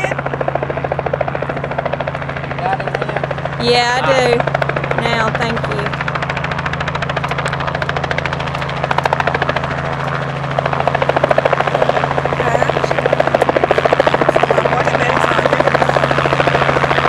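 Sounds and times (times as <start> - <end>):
helicopter engine drone: 0.0 - 17.0
helicopter rotor blades chopping: 0.0 - 17.0.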